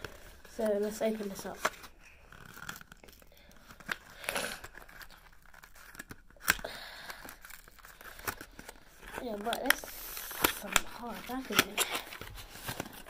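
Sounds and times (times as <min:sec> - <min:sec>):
plastic packaging rustling and crackling: 0:00.0 - 0:13.0
plastic packaging snapping: 0:01.6 - 0:13.0.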